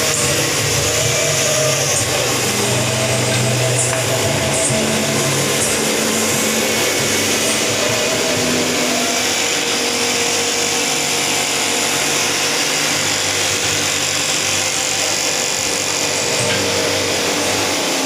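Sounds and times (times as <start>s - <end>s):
power tool hissing: 0.0s - 18.0s.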